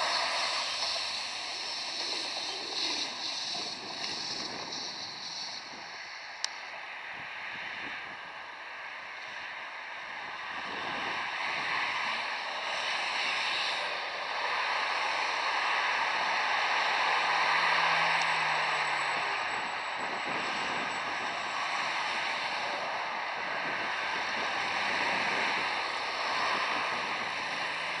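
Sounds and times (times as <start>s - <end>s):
road traffic hiss: 0.0s - 28.0s.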